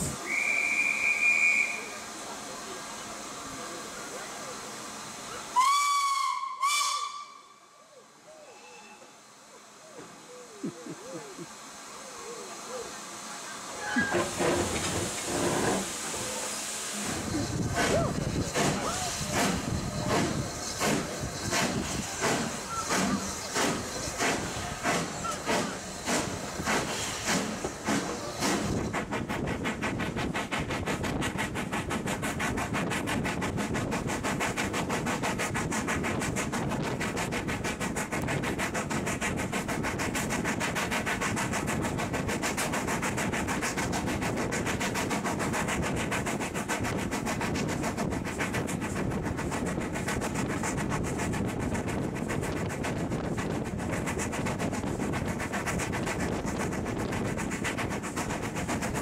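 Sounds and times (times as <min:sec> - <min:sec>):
steam locomotive exhaust beats: 0:00.0 - 0:59.0
train running noise: 0:00.0 - 0:59.0.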